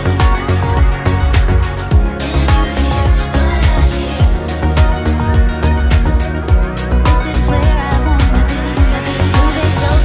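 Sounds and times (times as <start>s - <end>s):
deep bass: 0.0s - 10.0s
loud music with drum beat: 0.0s - 10.0s.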